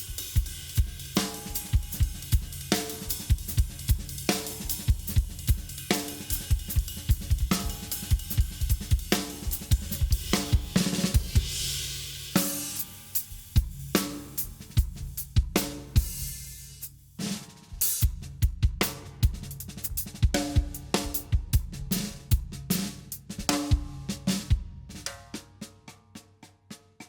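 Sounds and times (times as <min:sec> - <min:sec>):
acoustic drum kit playing fast: 0:00.0 - 0:27.0.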